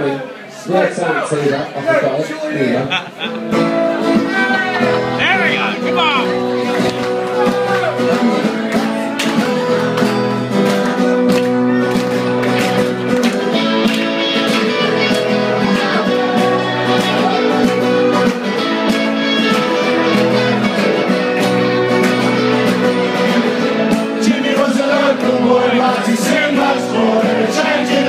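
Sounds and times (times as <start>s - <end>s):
live band guitars strumming: 2.8s - 28.0s.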